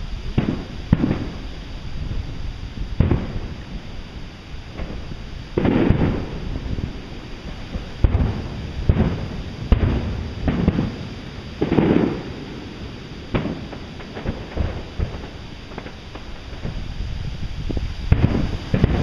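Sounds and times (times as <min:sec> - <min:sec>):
firework booms: 0:00.0 - 0:19.0
firework cracks: 0:00.0 - 0:19.0.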